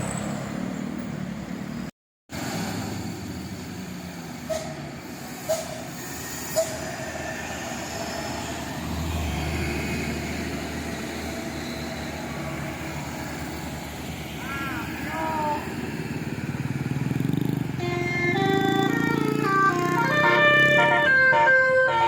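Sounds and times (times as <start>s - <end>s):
bus engine rumble passing: 0.0s - 22.0s.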